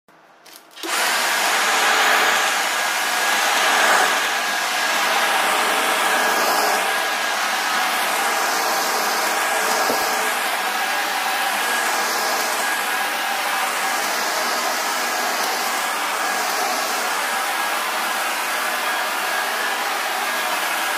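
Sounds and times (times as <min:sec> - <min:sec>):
vacuum cleaner running: 0:00.7 - 0:20.9.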